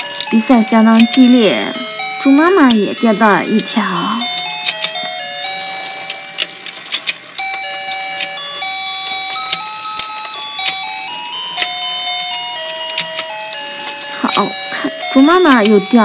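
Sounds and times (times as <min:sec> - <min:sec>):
electronic beeping melody: 0:00.0 - 0:16.0.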